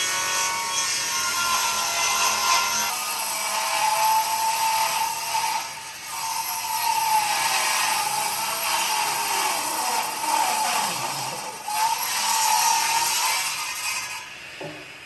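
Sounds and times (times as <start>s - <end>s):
power tool motor whine: 0.0s - 14.8s.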